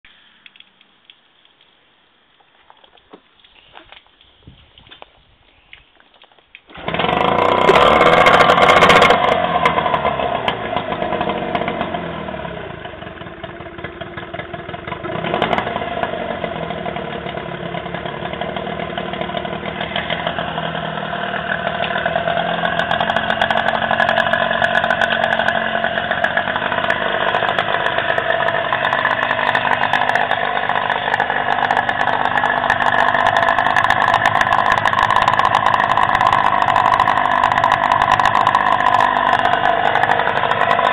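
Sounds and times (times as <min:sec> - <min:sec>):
outboard motor starting and running: 0:06.7 - 0:40.9.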